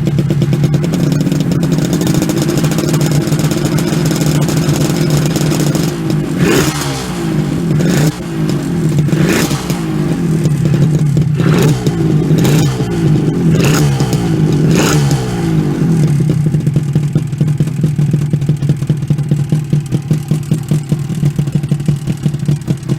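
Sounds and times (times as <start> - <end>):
two-stroke engine revving and idling: 0.0 - 22.9.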